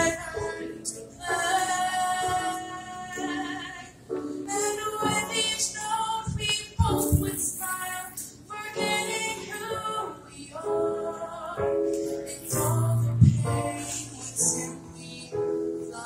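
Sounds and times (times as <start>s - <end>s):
girl singing into microphone: 0.0s - 16.0s.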